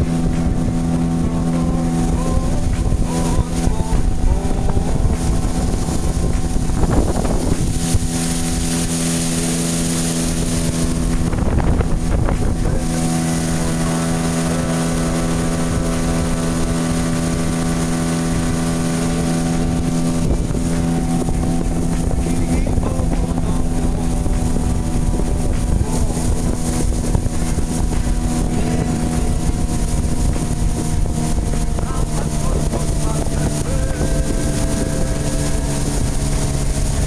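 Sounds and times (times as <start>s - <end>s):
engine running steadily: 0.0s - 37.0s
wind on microphone: 0.0s - 37.0s.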